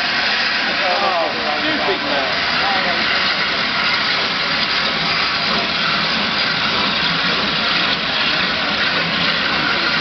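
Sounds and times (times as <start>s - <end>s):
steam train hiss and rumble: 0.0s - 10.0s.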